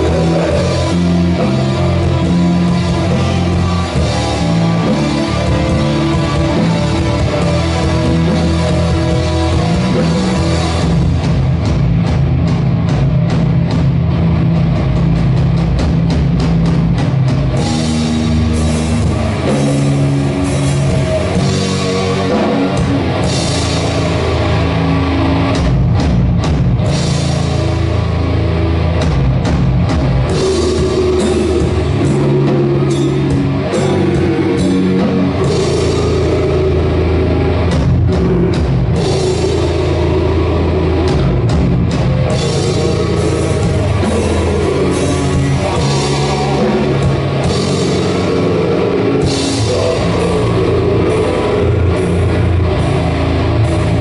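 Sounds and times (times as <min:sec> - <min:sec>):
doom metal band playing live: 0:00.0 - 0:54.0
drums and cymbals: 0:00.0 - 0:54.0.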